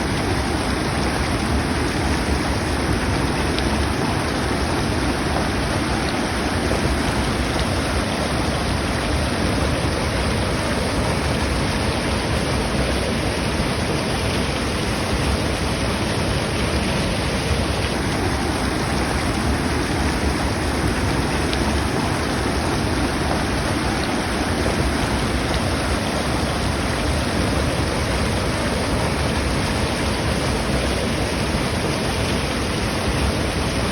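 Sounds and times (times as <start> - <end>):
water pouring into a pool: 0.0 - 33.9.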